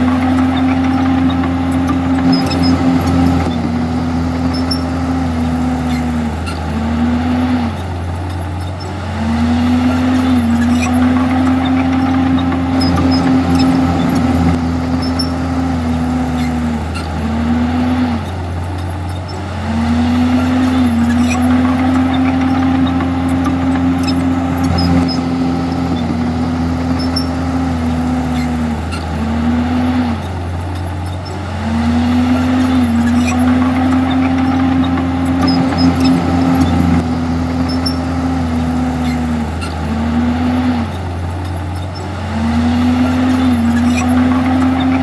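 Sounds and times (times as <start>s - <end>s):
bulldozer diesel engine: 0.0s - 45.0s.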